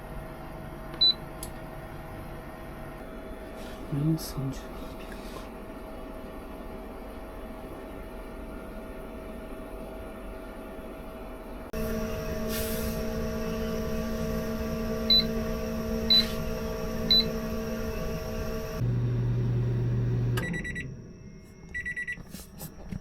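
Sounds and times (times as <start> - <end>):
microwave oven humming: 0.0 - 23.0.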